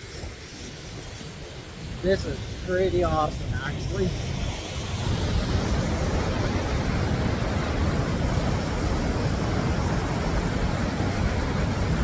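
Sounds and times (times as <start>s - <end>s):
waterfall rushing: 2.0s - 12.0s.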